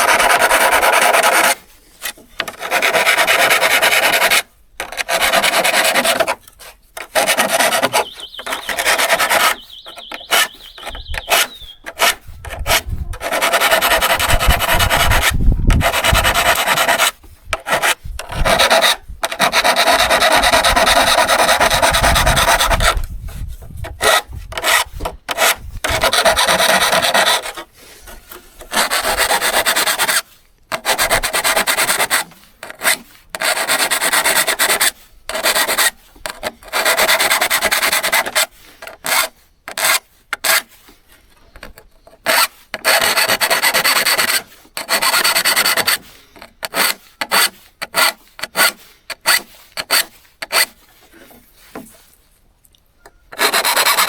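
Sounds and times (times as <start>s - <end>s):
abrasive scraping on saw blade: 0.0s - 40.9s, 42.2s - 52.2s, 53.3s - 54.0s.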